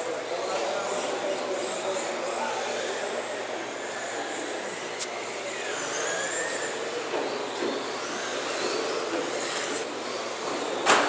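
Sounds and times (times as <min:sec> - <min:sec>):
toy car motor whining: 0:00.0 - 0:11.0.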